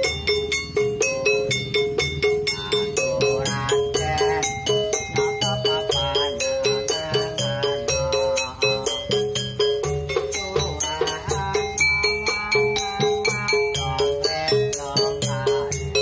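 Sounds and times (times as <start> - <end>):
mallet percussion notes: 0.0 - 16.0
tambourine jingle: 0.0 - 16.0.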